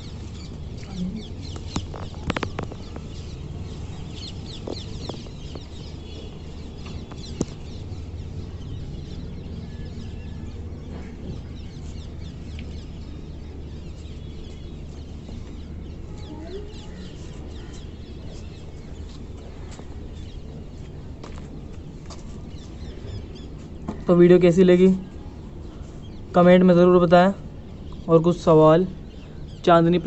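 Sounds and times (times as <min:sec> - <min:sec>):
steady low rumble: 0:00.0 - 0:29.7
birds chirping: 0:00.0 - 0:30.0.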